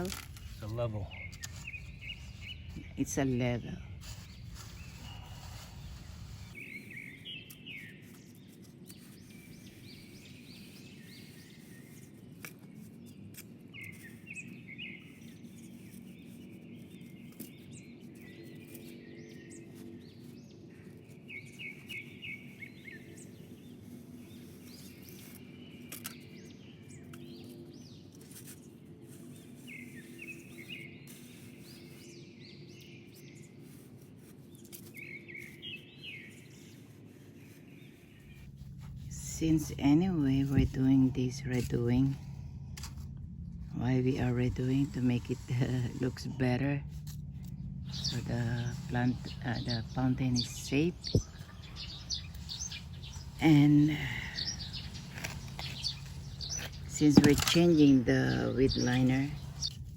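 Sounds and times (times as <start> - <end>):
low background hum: 0.0 - 59.9
songbirds chirping: 0.0 - 59.9.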